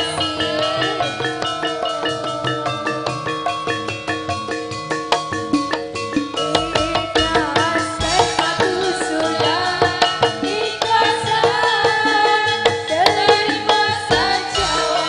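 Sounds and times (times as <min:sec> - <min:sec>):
woman singing: 0:00.0 - 0:03.8, 0:06.4 - 0:15.0
hand drum: 0:00.0 - 0:15.0
slit drums rhythm: 0:00.0 - 0:15.0.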